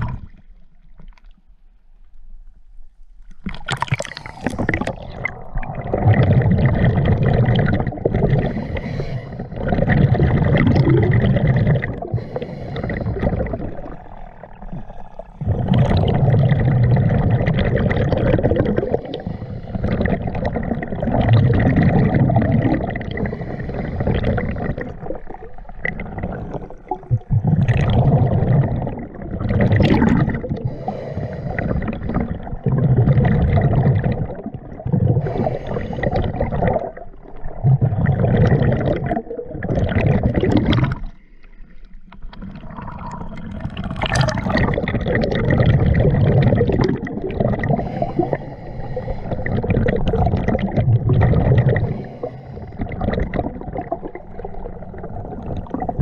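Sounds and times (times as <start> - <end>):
exhaled bubbles gurgling: 0.0 - 1.4, 3.4 - 56.0.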